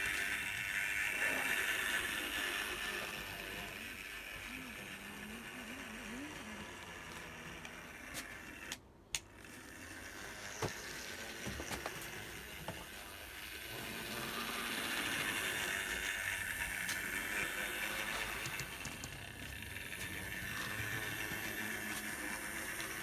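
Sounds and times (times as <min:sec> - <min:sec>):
model locomotive motor whirring: 0:00.0 - 0:23.0.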